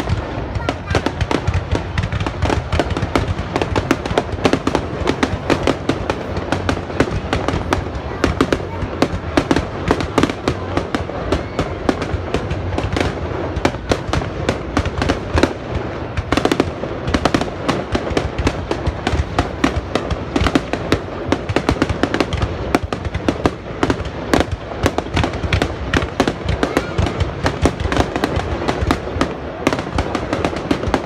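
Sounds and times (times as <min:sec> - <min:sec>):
fireworks barrage: 0:00.0 - 0:31.0.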